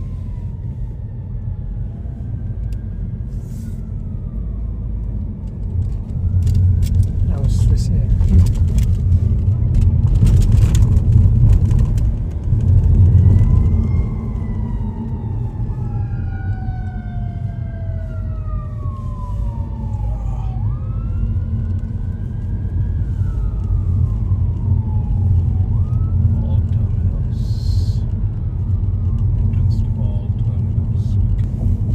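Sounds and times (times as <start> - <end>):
emergency siren wailing: 0.0 - 31.9
road traffic rumble: 0.0 - 31.9.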